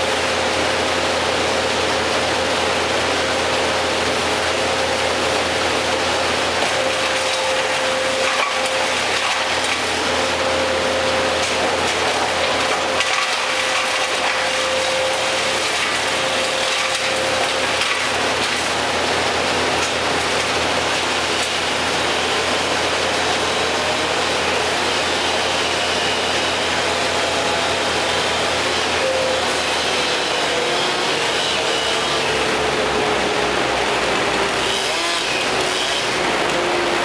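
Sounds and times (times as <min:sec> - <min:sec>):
heavy machinery running: 0:00.0 - 0:37.0
wood crushing and cracking: 0:01.0 - 0:37.0.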